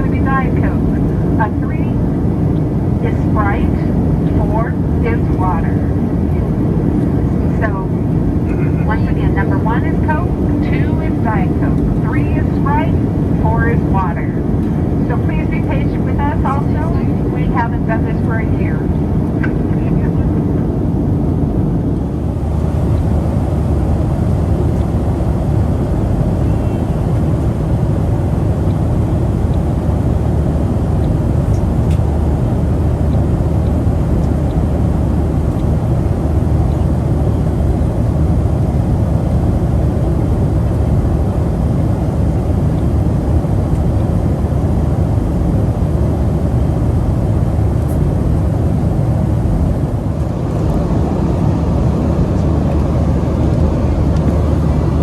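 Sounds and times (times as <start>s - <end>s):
jet engine roar in cabin: 0.0s - 55.0s.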